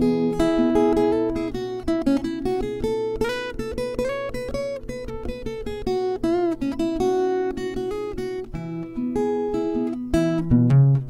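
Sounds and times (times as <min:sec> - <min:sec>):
acoustic guitar fingerpicked: 0:00.0 - 0:11.0.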